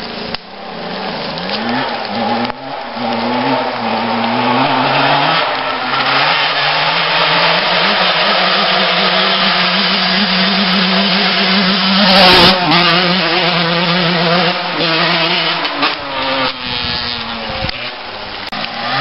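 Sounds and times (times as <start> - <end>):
motocross bike engines revving: 0.0 - 19.0
motorbike passing by: 0.6 - 19.0.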